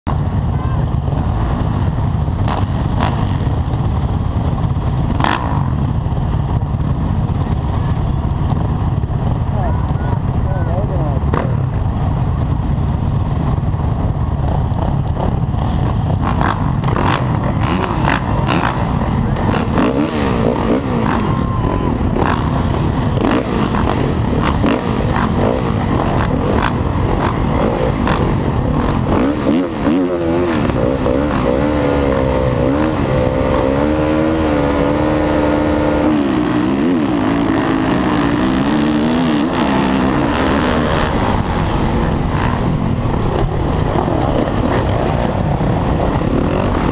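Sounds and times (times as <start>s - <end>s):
motocross bike engine revving: 0.7s - 9.7s, 10.3s - 12.7s, 13.4s - 46.9s.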